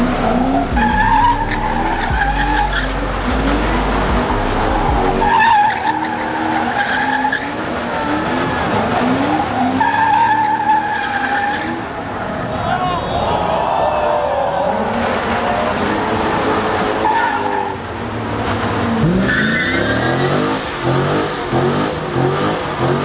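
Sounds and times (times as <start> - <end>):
car engine revving: 0.0 - 12.6, 14.7 - 23.0
tires squealing: 0.0 - 23.0.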